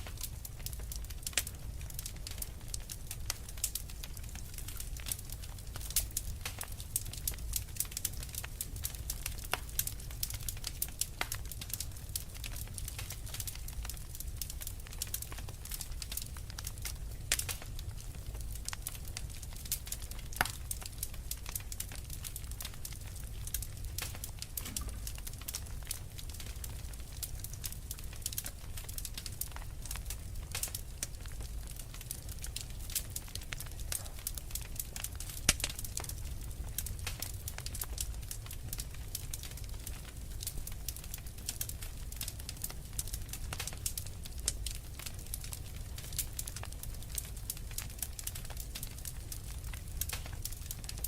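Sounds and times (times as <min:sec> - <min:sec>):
flames low rumble: 0:00.0 - 0:51.0
wood fire crackling: 0:00.0 - 0:51.0.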